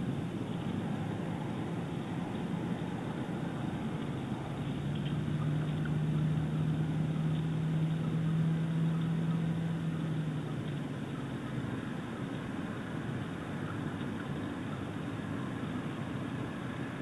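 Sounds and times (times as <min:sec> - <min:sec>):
distant motor hum: 0:00.0 - 0:17.0
rushing background noise: 0:00.0 - 0:17.0.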